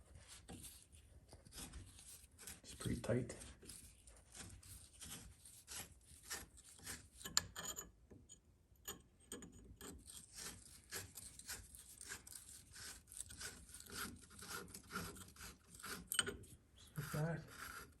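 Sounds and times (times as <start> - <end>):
hand tool scraping on metal nut: 0.2 - 8.0, 8.8 - 18.0.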